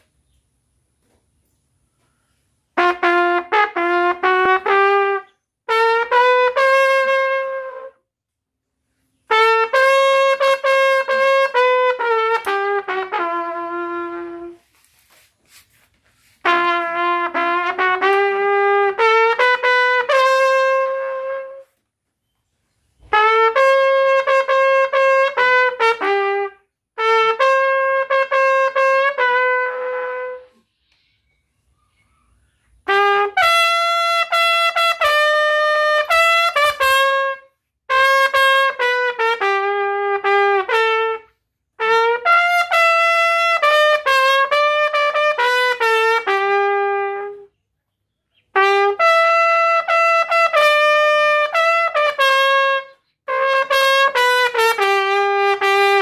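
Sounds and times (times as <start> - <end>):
bugle playing melody: 2.7 - 8.1, 9.2 - 15.2, 16.2 - 21.8, 23.0 - 30.6, 32.8 - 47.5, 48.5 - 56.0.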